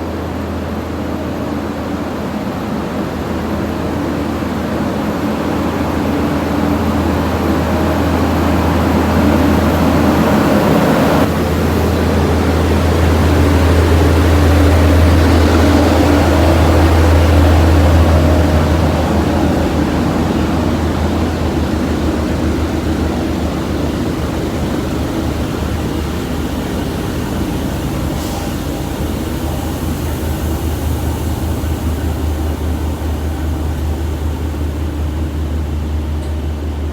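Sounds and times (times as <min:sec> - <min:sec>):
diesel engine droning: 0:00.0 - 0:36.9.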